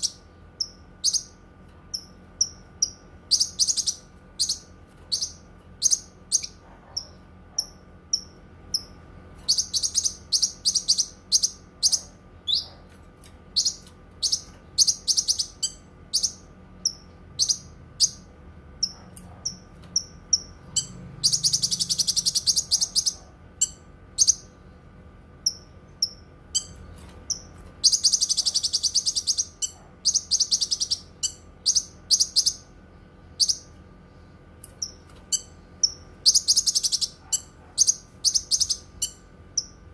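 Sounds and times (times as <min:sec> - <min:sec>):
bird chirping: 0:00.0 - 0:24.6, 0:25.4 - 0:33.8, 0:34.6 - 0:39.9.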